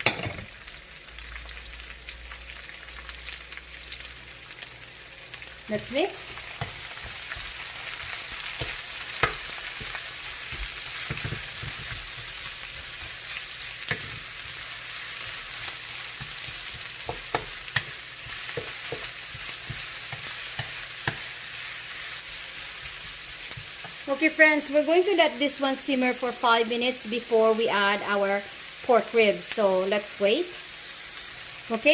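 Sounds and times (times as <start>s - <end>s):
food sizzling in hot oil: 0.0s - 31.9s.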